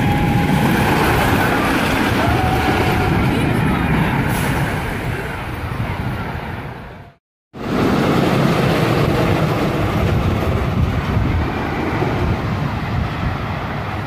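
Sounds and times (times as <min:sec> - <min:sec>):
roller coaster rumbling clatter: 0:00.0 - 0:14.0.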